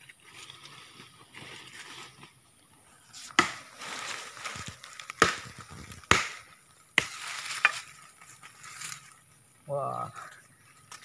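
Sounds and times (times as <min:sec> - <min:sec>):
loose earth rustling: 0:00.0 - 0:11.0.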